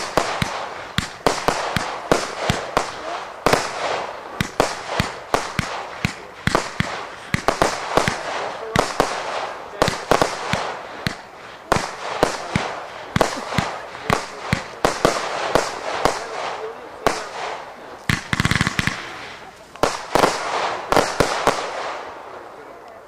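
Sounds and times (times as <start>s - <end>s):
firework shots hissing: 0.0s - 22.2s
firework bangs: 0.0s - 22.7s.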